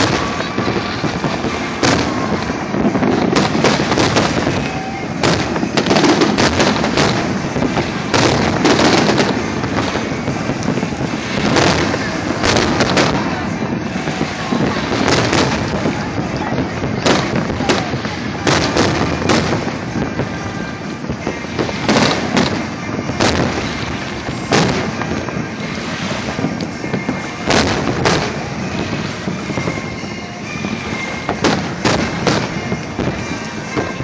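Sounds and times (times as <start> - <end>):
fireworks shells bursting: 0.0 - 34.0.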